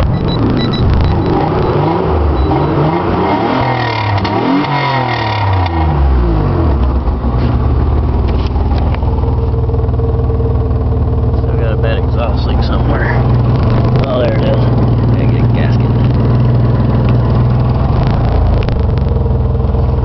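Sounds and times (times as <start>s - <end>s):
car engine revving and idling: 0.0s - 20.0s.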